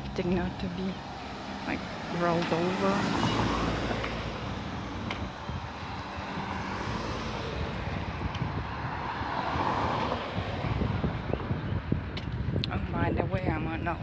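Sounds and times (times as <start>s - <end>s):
minivan passing by: 0.0s - 12.0s
low rumble of street noise: 0.0s - 14.0s.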